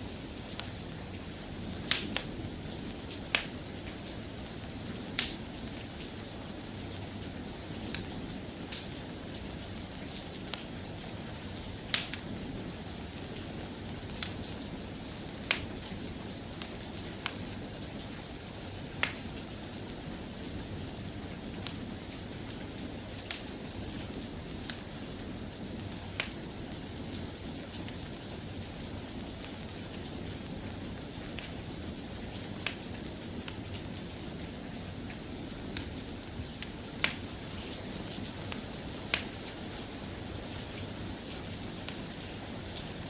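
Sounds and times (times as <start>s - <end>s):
soft rain hiss: 0.0s - 43.0s.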